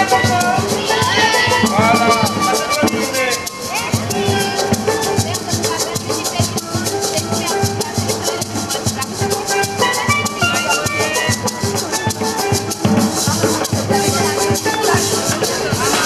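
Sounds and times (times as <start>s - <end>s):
drums: 0.0s - 16.0s
shaker: 0.0s - 16.0s
steel pan melody: 0.0s - 16.0s.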